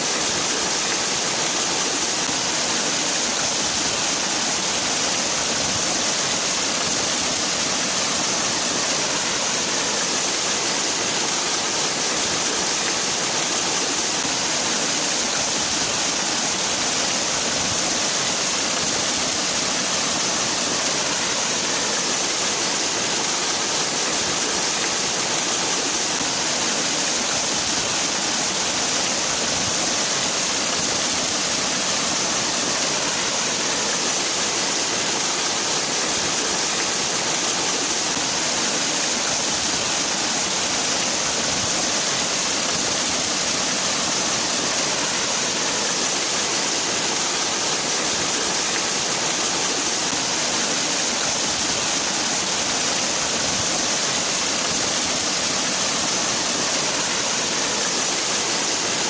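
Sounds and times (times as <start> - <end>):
waterfall splashing: 0.0 - 59.0.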